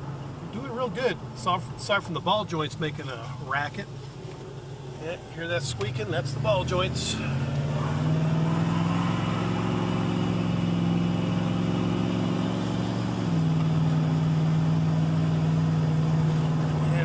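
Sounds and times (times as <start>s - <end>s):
truck engine running inside cab: 0.0s - 17.0s.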